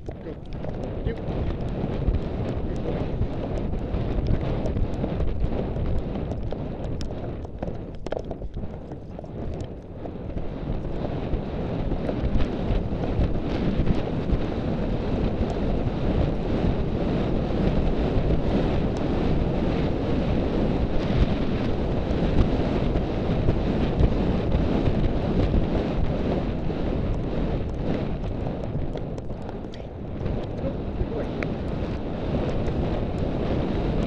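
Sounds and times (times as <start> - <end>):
horse hoofbeats thudding: 0.0 - 34.0
wind buffeting microphone: 0.0 - 34.0.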